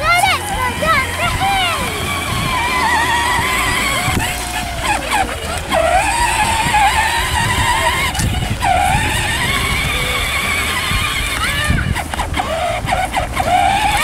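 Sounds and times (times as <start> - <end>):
electronic engine sound from speaker: 0.0 - 14.0.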